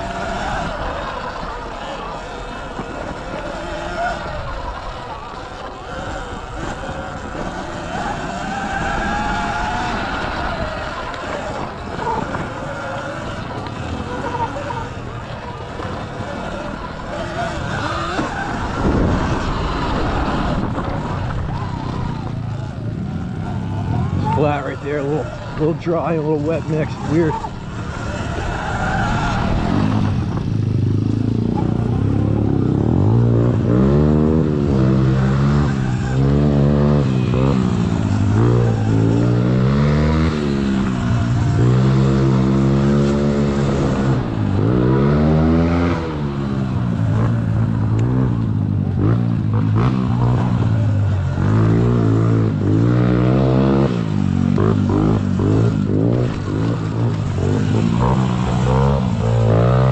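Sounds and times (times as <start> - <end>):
electric dirt bike motor whining: 0.0 - 59.9.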